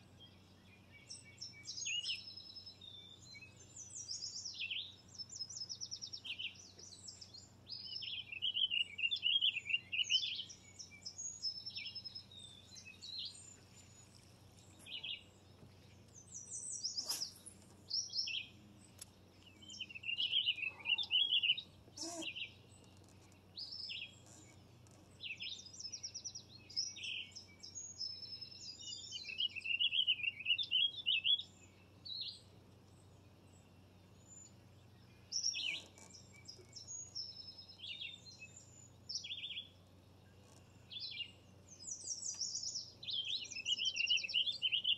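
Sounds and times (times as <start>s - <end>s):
birds singing and calling: 0.0s - 44.9s.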